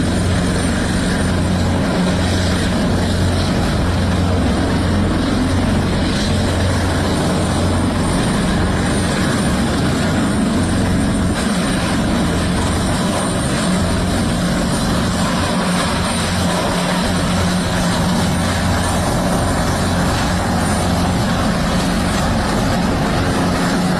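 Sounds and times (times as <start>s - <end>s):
helicopter rotor and turbine: 0.0s - 23.9s.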